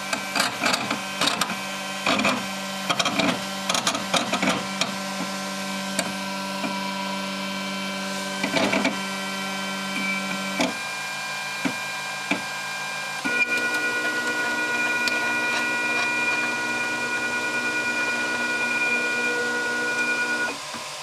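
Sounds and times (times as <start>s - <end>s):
printer motor whine: 0.0s - 21.0s.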